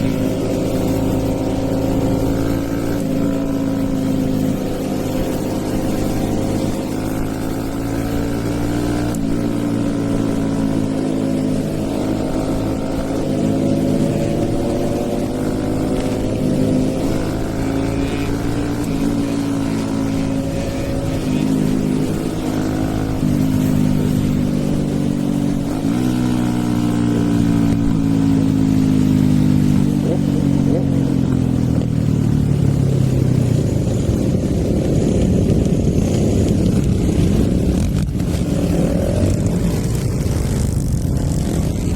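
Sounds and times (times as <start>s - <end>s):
motorcycle engine shifting gears: 0.0s - 41.9s.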